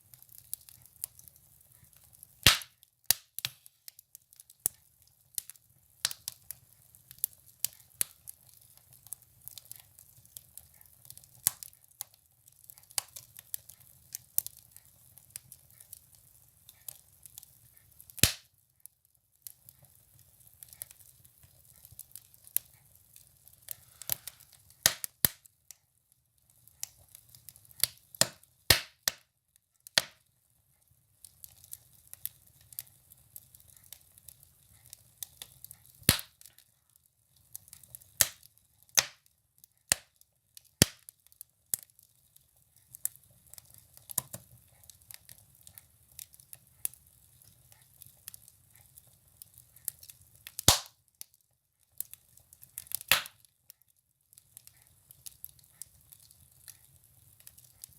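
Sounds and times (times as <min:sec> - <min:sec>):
firewood crackling in a stove: 0:00.0 - 0:57.9.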